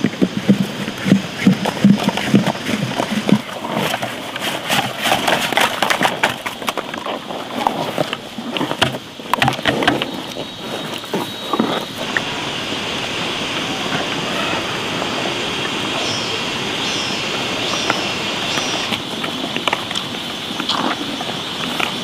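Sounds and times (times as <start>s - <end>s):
water buffalo crunching and chewing: 0.0s - 12.5s, 13.8s - 22.0s.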